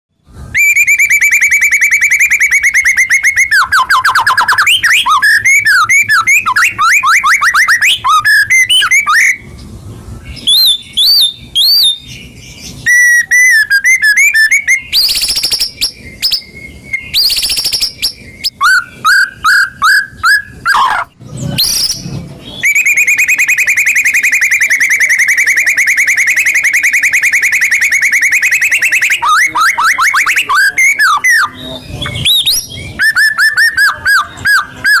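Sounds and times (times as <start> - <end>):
songbird trilling and whistling: 0.4 - 35.0.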